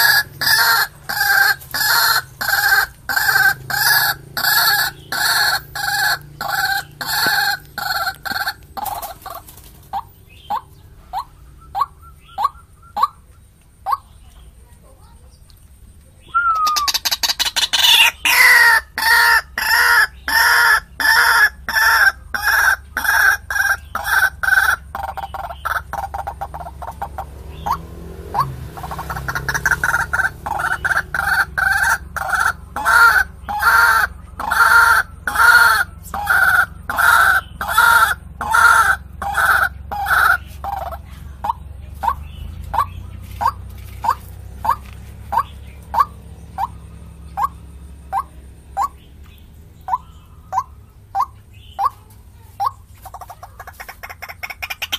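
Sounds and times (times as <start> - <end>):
waterhen harsh calls: 0.0 - 14.2, 16.4 - 49.1, 49.8 - 54.9.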